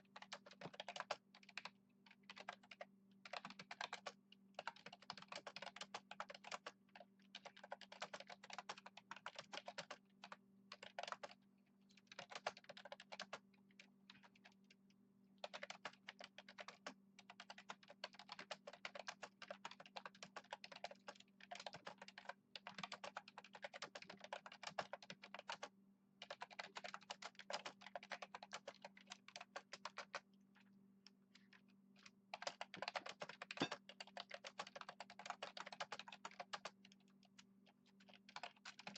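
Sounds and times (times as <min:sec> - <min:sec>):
typing on a keyboard: 0:00.1 - 0:14.8, 0:15.4 - 0:30.3, 0:31.3 - 0:38.9.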